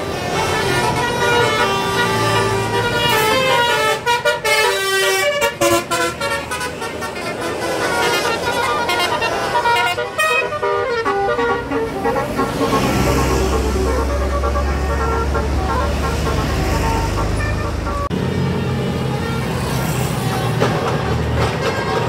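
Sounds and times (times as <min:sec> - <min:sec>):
multi-tone air horn melody: 0:00.0 - 0:18.2.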